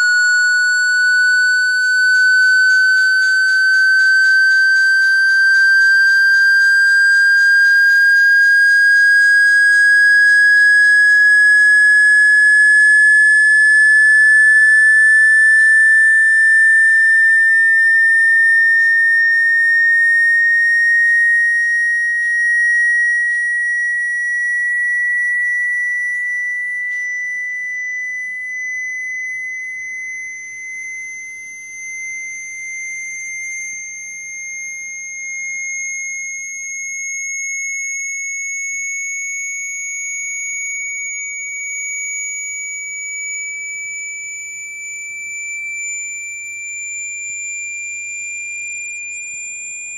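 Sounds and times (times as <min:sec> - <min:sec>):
rising electronic sine tone: 0:00.0 - 0:49.9.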